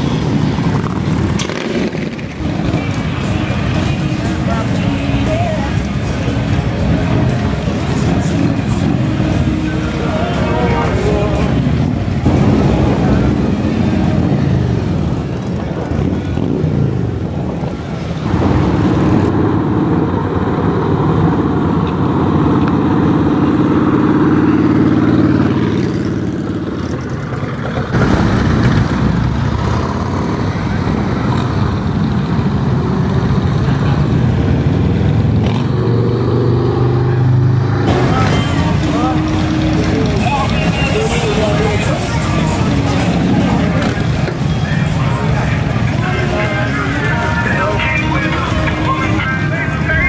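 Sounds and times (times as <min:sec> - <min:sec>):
motorcycle engines revving: 0:00.0 - 0:50.0.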